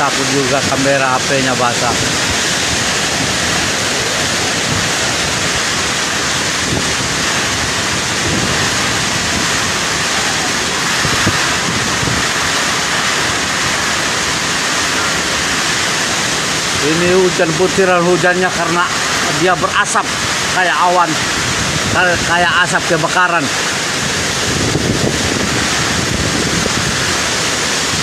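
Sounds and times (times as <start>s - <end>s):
driving rain: 0.0s - 28.0s
storm wind: 0.0s - 28.0s.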